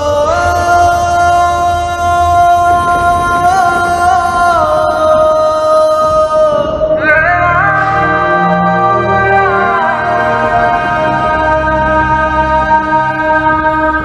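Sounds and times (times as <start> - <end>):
arabian-style melody: 0.0 - 14.0
chord tones: 0.0 - 14.0.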